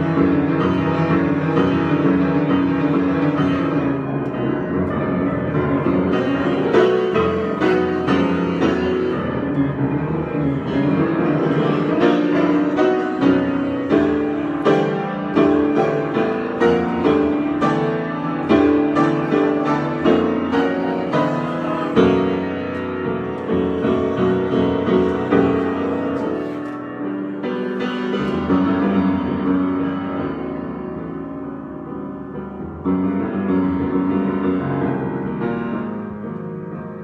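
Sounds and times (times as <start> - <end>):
solo piano improvisation: 0.0 - 37.0.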